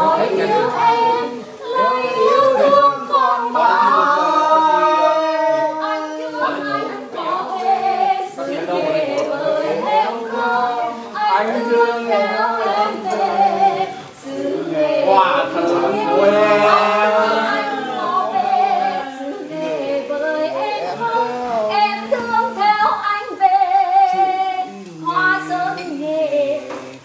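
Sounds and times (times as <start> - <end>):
group singing unaccompanied: 0.0 - 27.0.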